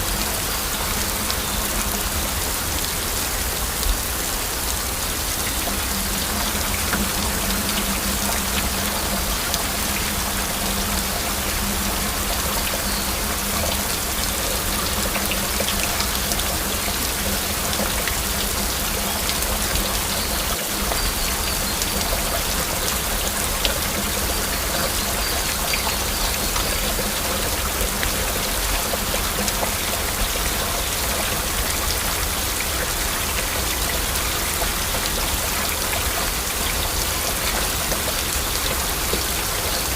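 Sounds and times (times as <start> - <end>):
heavy rain: 0.0 - 39.9
raindrops ticking: 5.2 - 39.9.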